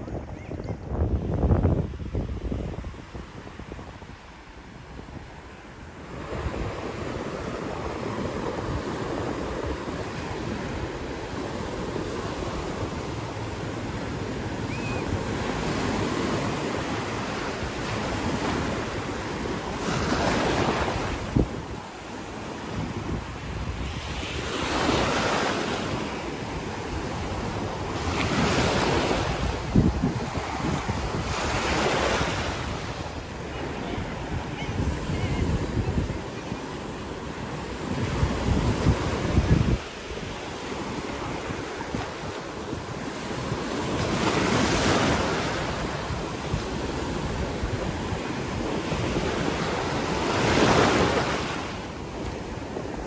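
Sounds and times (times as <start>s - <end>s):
waves breaking on shore: 0.0s - 53.0s
wind buffeting microphone: 0.0s - 53.0s.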